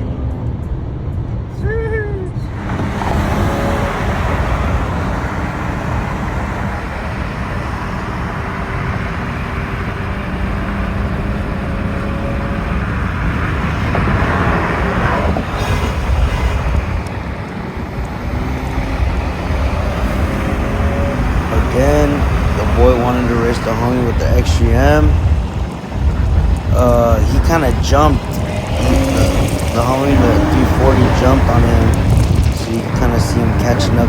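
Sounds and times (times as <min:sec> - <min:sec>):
car engine and exhaust: 0:00.0 - 0:34.0
road and tyre noise: 0:00.0 - 0:34.0.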